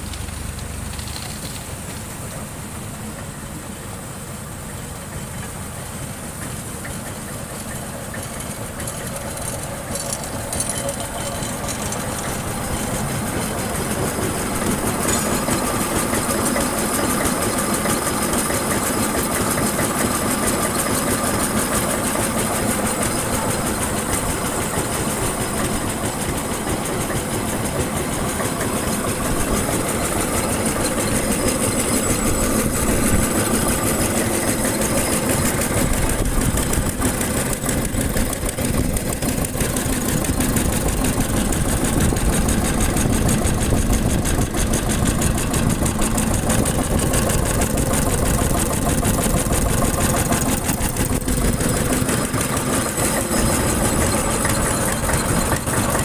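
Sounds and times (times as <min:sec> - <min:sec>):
machine engine pulsing: 0:06.6 - 0:56.0.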